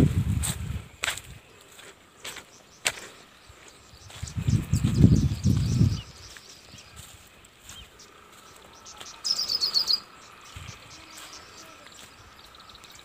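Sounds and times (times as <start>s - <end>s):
small bird chirping: 0.9s - 13.0s.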